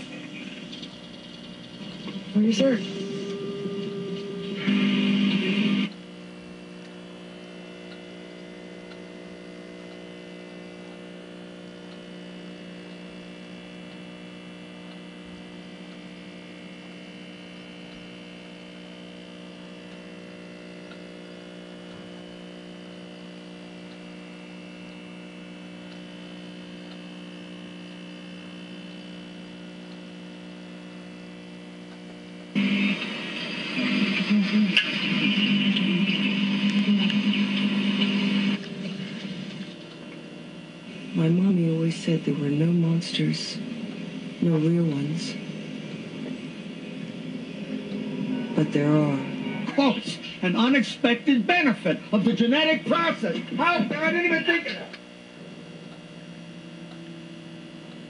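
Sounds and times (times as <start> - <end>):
steady electrical hum: 0.0 - 58.0.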